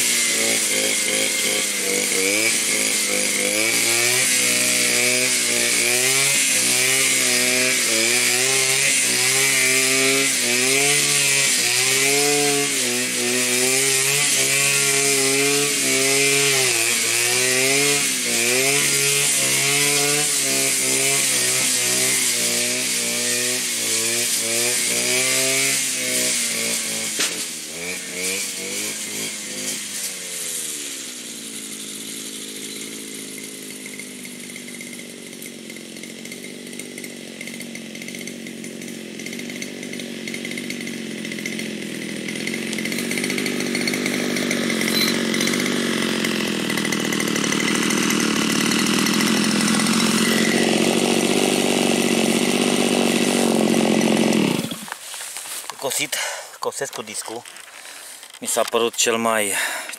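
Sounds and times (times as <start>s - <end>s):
brushcutter mowing grass: 0.0s - 59.9s.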